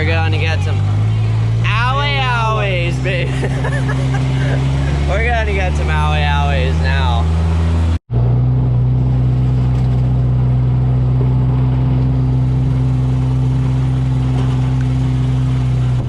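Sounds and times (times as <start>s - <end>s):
outboard motor droning: 0.0s - 8.0s, 9.1s - 16.0s.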